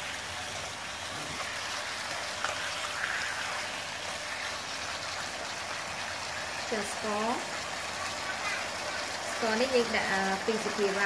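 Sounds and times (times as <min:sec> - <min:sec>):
pork sizzling in sauce: 0:00.0 - 0:11.0.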